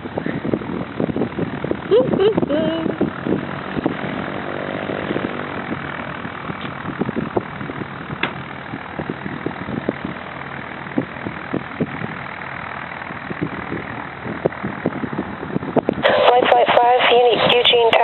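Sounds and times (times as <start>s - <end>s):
propeller plane engine running: 0.0s - 18.0s.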